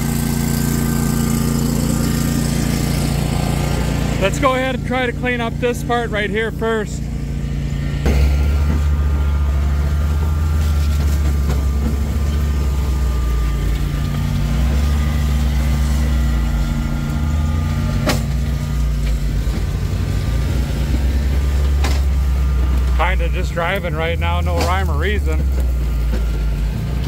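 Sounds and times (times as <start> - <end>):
utility vehicle engine running: 0.0 - 27.0.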